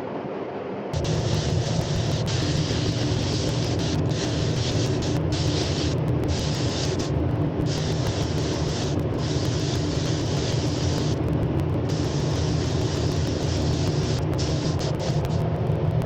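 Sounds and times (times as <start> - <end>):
steady low drone: 0.0 - 16.0
spray gun hissing: 1.0 - 11.2, 11.8 - 15.4.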